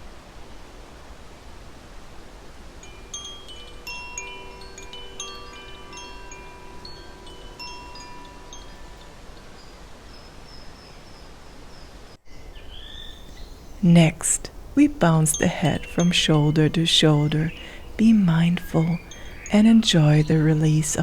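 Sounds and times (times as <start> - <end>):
steady low hiss: 0.0 - 21.0
wind chimes ringing: 2.8 - 11.0, 12.3 - 21.0.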